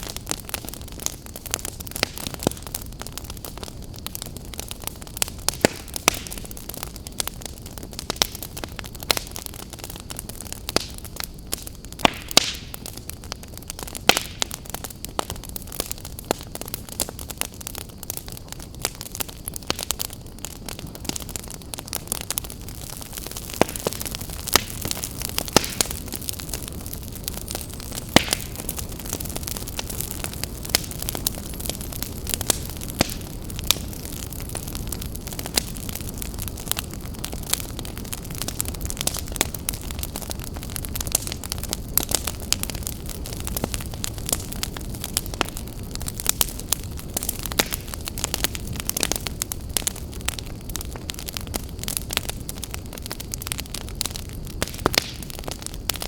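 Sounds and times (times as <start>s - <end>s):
low rushing of flame: 0.0s - 56.0s
wood fire crackling: 0.0s - 56.0s.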